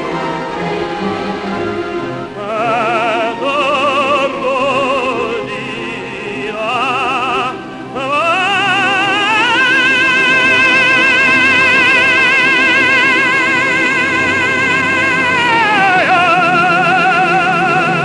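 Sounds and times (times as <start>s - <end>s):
operatic tenor singing: 0.0s - 18.0s.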